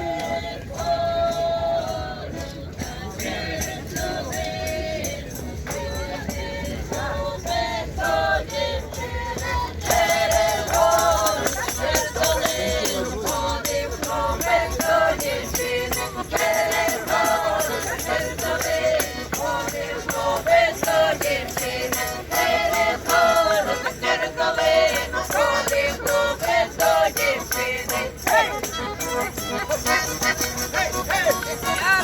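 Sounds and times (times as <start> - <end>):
music with singing over percussion: 0.0 - 32.0.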